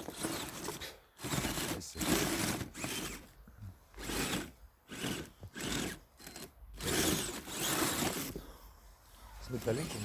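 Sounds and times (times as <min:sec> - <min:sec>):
electric motor whirring: 0:00.0 - 0:08.4.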